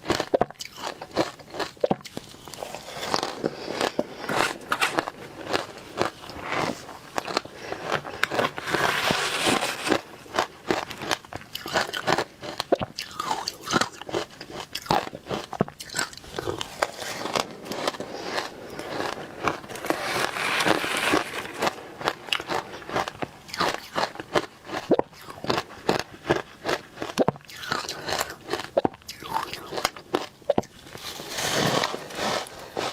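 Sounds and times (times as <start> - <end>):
crunching ice: 0.0 - 32.9.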